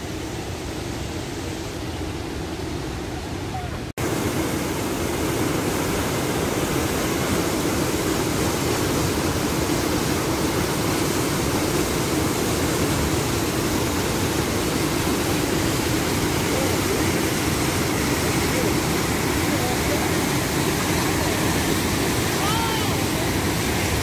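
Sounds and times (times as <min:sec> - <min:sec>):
waterfall roar: 0:00.0 - 0:24.0.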